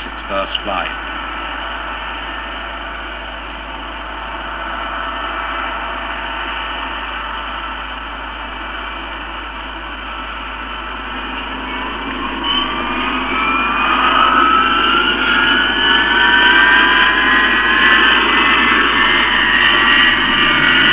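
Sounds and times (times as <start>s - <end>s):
jet engine drone: 0.0s - 20.9s
thin high whine: 0.0s - 20.9s.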